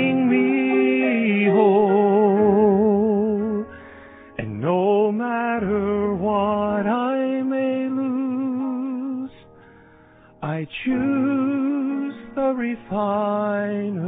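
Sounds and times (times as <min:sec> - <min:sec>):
man singing with vibrato: 0:00.0 - 0:03.8, 0:04.4 - 0:09.3, 0:10.4 - 0:14.0
piano: 0:00.0 - 0:14.0.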